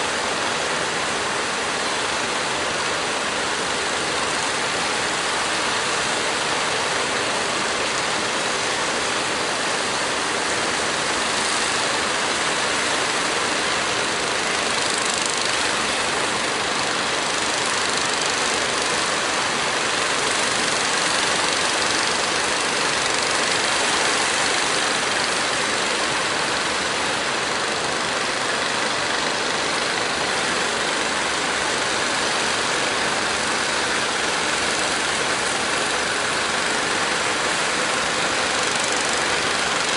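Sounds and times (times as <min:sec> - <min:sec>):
boat engines: 0:00.0 - 0:39.9
wind: 0:00.0 - 0:39.9.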